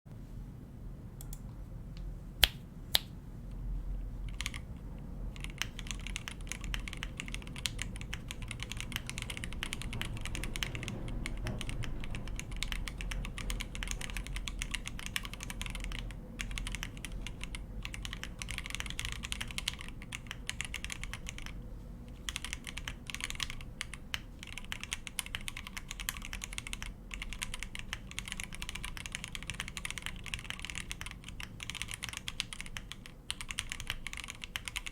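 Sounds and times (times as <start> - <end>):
mechanical keyboard typing: 4.3 - 34.9.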